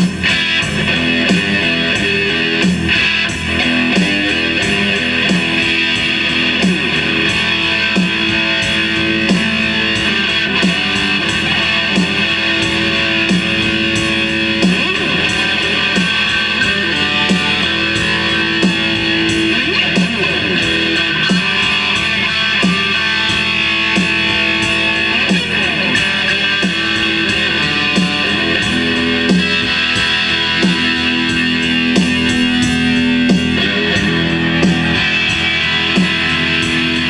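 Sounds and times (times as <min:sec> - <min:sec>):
electric guitar blues tune: 0:00.0 - 0:37.0.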